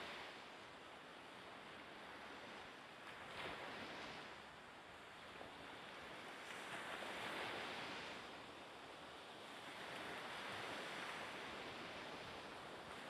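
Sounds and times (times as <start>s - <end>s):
small waves: 0.0s - 13.0s
wind: 0.0s - 13.0s.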